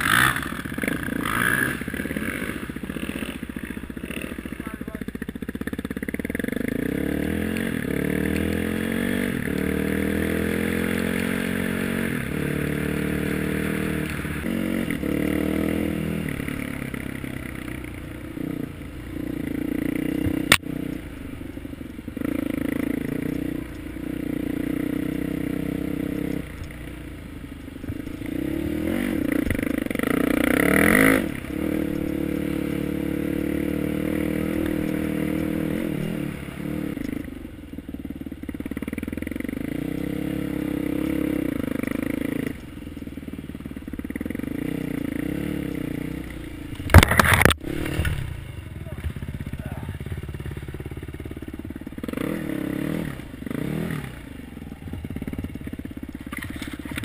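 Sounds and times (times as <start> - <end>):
dirt bike engine revving: 0.0 - 21.4, 22.1 - 37.3, 38.0 - 42.6, 43.2 - 57.0.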